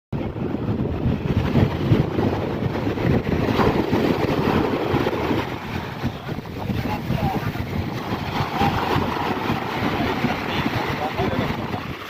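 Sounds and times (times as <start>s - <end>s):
wind rumbling on microphone: 0.1s - 12.0s
waves rushing on beach: 0.2s - 12.0s.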